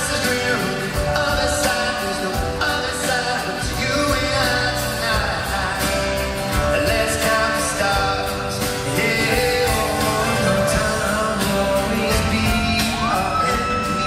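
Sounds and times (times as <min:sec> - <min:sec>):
drum beat: 0:00.0 - 0:14.0
guitar: 0:00.0 - 0:14.0
male group vocals: 0:00.0 - 0:14.0.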